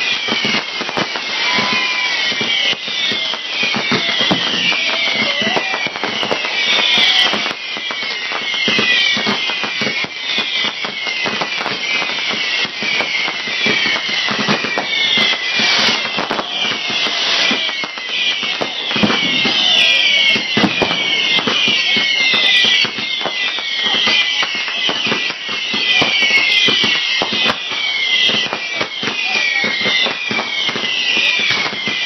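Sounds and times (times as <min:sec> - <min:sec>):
fireworks bangs and crackles: 0:00.0 - 0:32.0
high quick falling whistle: 0:00.0 - 0:32.0.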